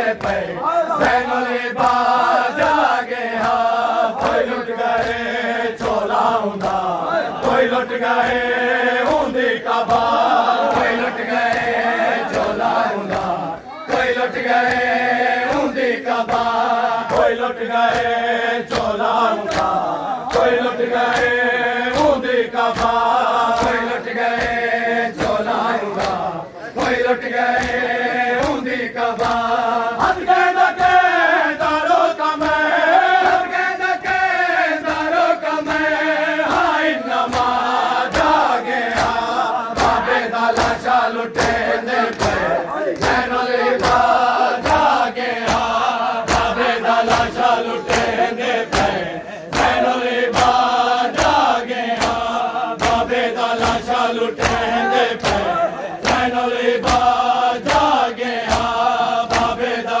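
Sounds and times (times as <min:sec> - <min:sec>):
men chanting in unison: 0:00.0 - 1:00.0
hands slapping chests: 0:00.1 - 0:33.4, 0:34.0 - 0:59.9.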